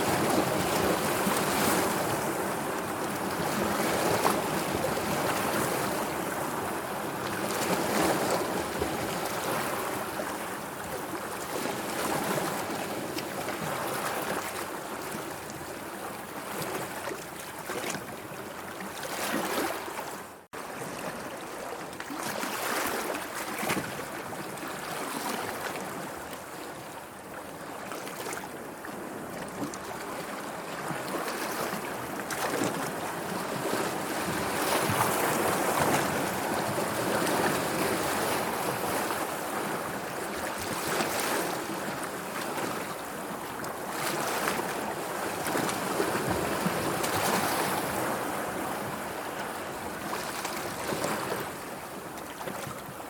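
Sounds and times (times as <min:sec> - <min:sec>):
sea waves washing and lapping: 0:00.0 - 0:53.0.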